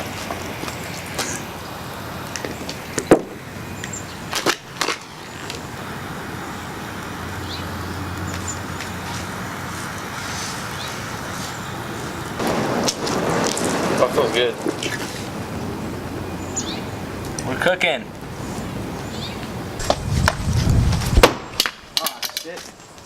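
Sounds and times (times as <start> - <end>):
torch flame hissing: 0.0 - 21.6.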